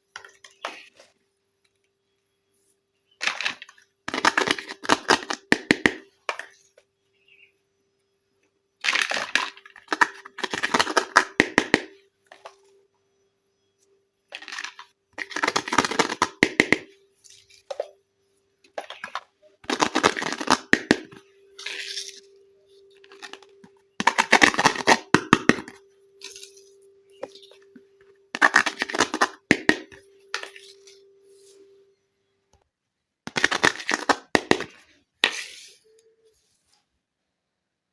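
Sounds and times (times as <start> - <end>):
faint steady hum: 0.0 - 33.2.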